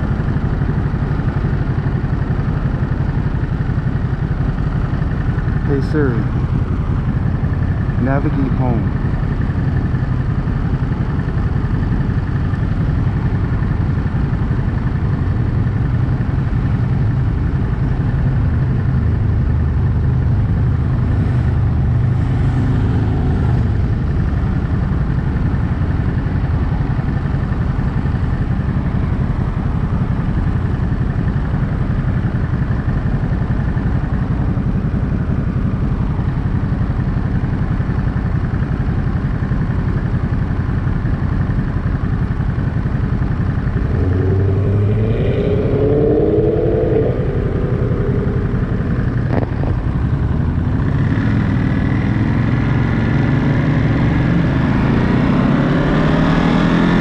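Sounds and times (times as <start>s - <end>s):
air rush and road noise: 0.0s - 57.0s
motorcycle engine running: 0.0s - 57.0s.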